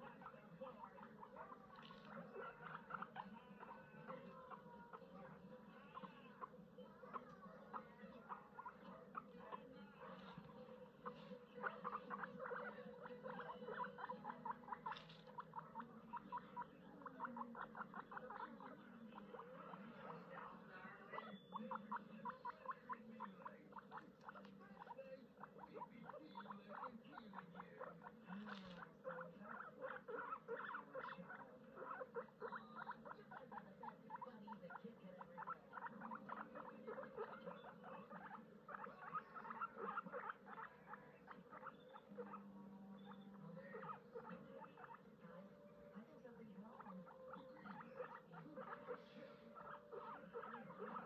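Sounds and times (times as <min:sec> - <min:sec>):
guinea pigs chewing hay: 0:00.0 - 0:51.0.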